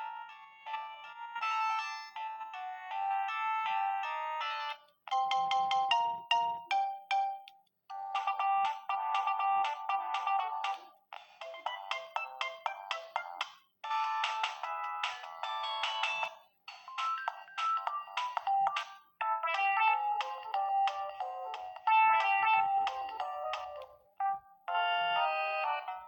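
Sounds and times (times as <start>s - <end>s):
phone ringtone beeping melody: 0.0s - 10.8s, 11.4s - 26.0s.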